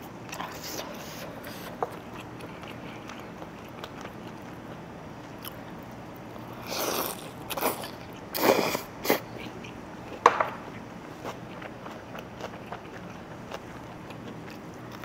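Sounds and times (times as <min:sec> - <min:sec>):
mouth eating sounds: 0:00.3 - 0:15.0.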